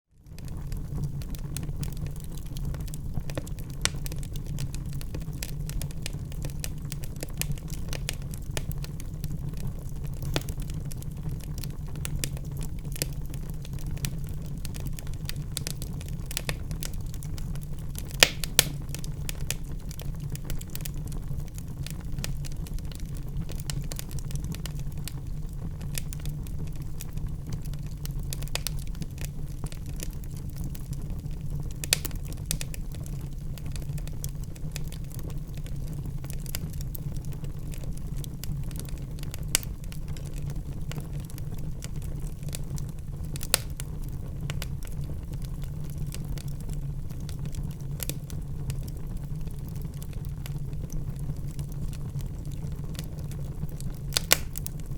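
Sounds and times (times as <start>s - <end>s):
wood fire crackling: 0.2s - 54.9s.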